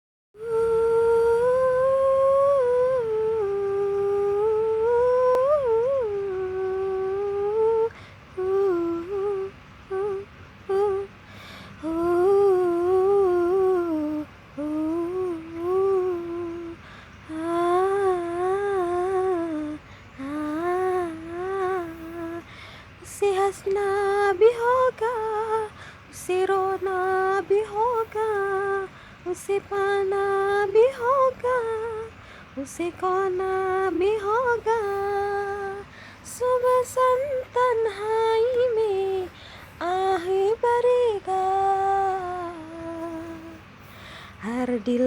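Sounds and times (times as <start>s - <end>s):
woman humming a melody: 0.4s - 43.8s, 44.4s - 45.0s.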